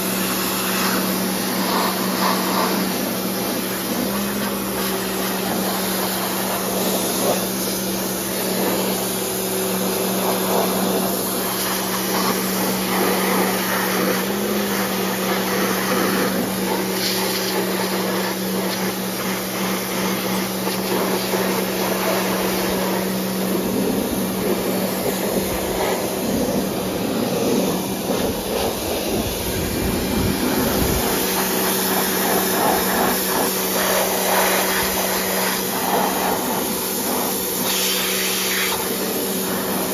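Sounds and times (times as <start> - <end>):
pressure washer pump humming: 0.0 - 39.9
water jet spraying: 0.0 - 39.9.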